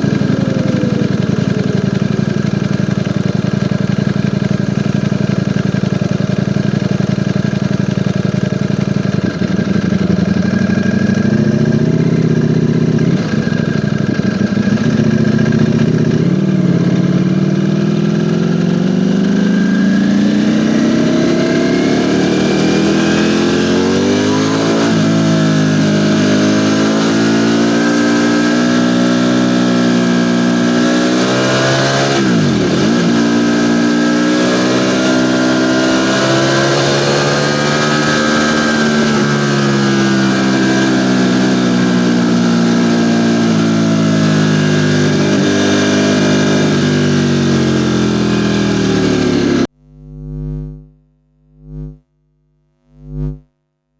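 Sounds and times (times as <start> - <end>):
motorcycle engine revving: 0.0 - 53.6.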